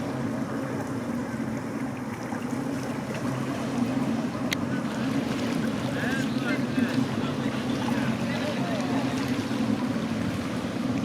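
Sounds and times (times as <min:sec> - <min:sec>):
boat engine humming: 0:00.0 - 0:11.0
water wash: 0:00.0 - 0:11.0.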